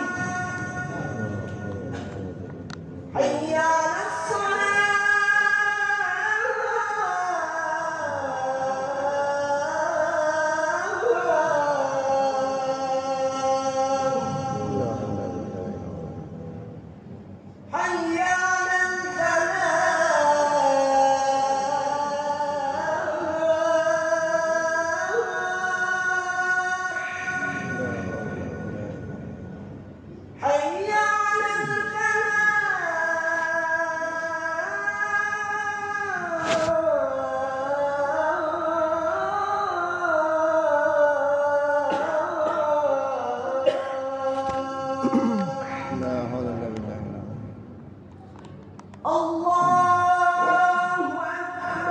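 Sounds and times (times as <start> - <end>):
man chanting: 0.0 - 29.8, 30.4 - 47.7, 49.0 - 51.9.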